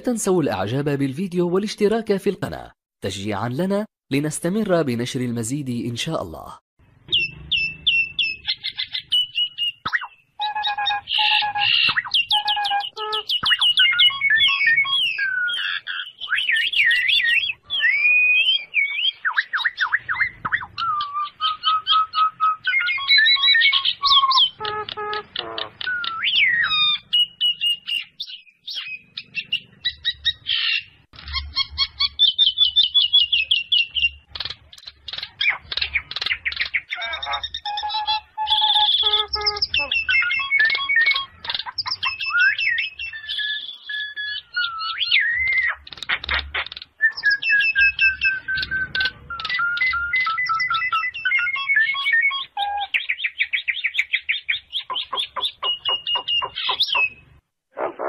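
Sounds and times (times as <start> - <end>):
myna bird singing: 0.0 - 58.0.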